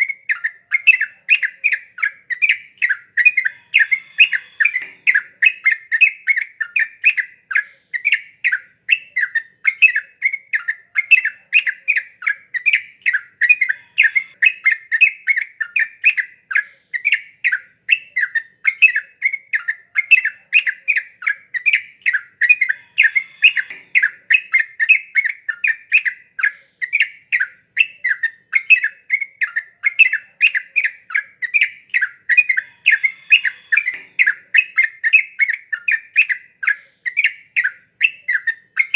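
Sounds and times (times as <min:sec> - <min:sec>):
bird chattering calls: 0:00.0 - 0:10.1, 0:11.0 - 0:19.0, 0:20.0 - 0:38.9.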